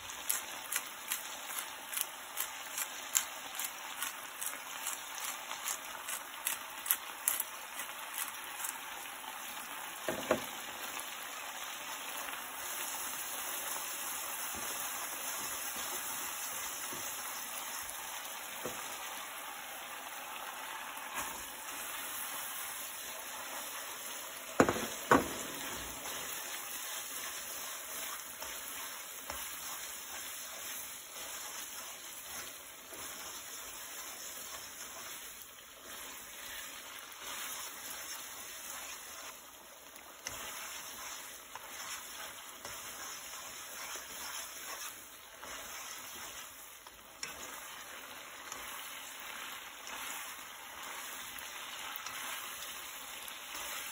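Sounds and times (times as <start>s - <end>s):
cheese sizzling in frying pan: 0.0s - 53.9s.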